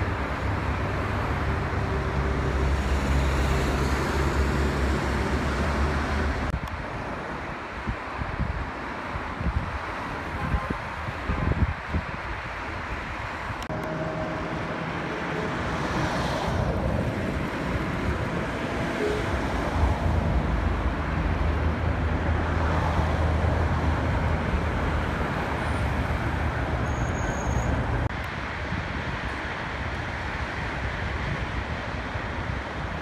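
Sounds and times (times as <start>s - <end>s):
passing cars and tyre noise: 0.0s - 33.0s.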